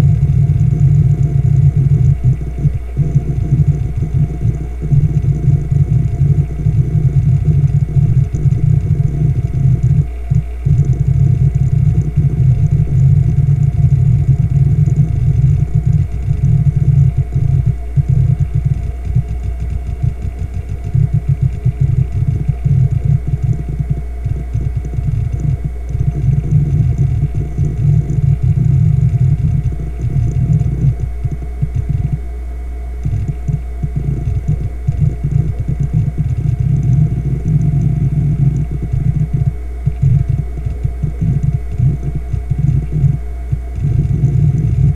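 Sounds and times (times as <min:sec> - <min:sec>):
hard drive seek chatter: 0:00.0 - 0:44.9
hard drive spindle hum: 0:00.0 - 0:44.9.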